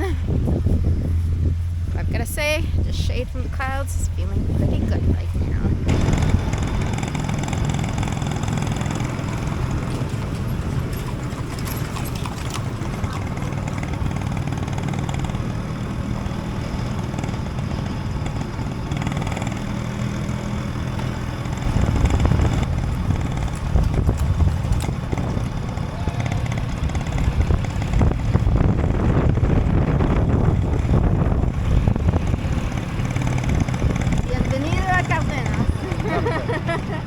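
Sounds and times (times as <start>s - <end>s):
motorcycle engine running: 0.0s - 37.0s
road noise: 0.0s - 37.0s
wind: 0.0s - 37.0s.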